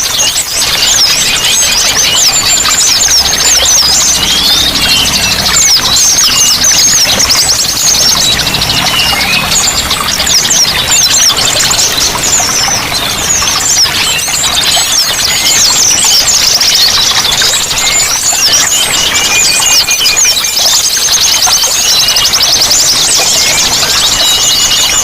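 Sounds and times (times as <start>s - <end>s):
flowing water: 0.0s - 25.0s
songbirds chirping and twittering: 0.0s - 25.0s.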